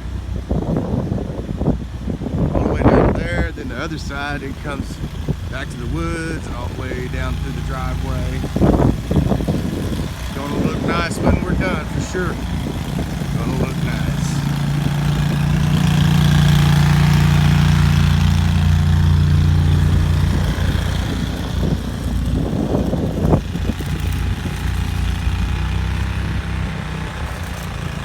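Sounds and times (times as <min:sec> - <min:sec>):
engine idling: 0:02.2 - 0:28.0.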